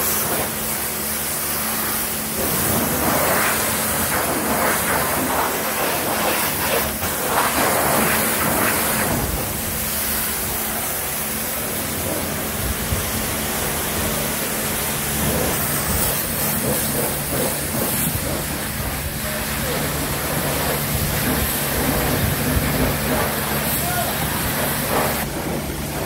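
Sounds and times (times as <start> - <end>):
pressure washer spray hissing: 0.0 - 26.0
wash pump humming: 0.0 - 26.0.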